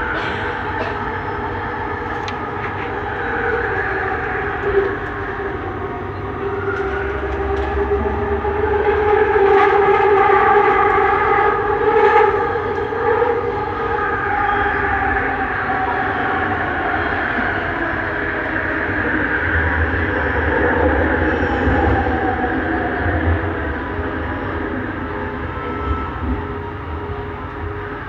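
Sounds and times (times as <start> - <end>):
train rolling noise: 0.0 - 28.0.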